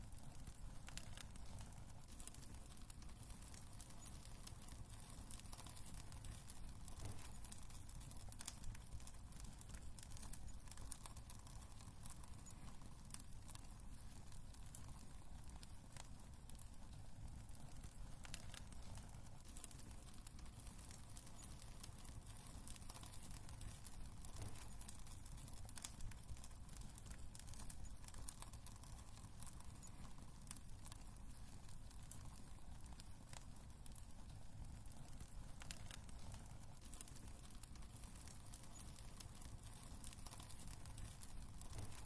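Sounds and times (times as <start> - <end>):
fire rumbling: 0.0 - 42.0
logs crackling and popping: 0.0 - 42.0.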